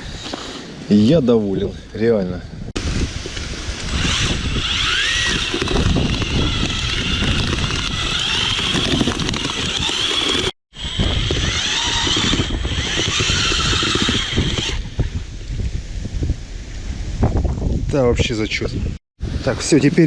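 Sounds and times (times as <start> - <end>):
storm wind buffeting microphone: 1.5 - 20.0.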